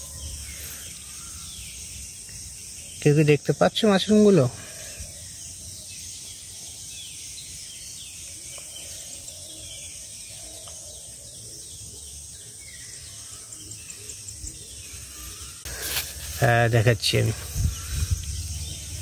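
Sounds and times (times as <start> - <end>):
bird chirping: 0.0 - 19.0
insects droning: 0.0 - 19.0.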